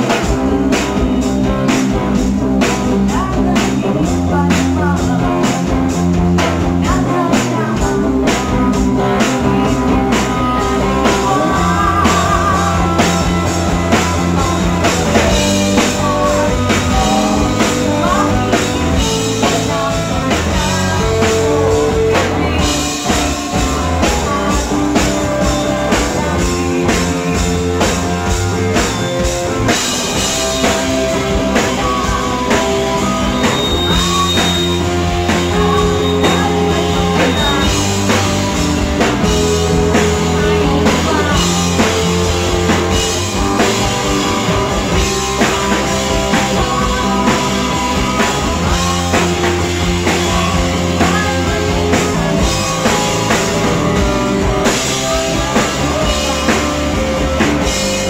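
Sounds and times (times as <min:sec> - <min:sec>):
rock band playing: 0:00.0 - 0:58.0
woman singing: 0:01.9 - 0:27.9, 0:29.8 - 0:58.0.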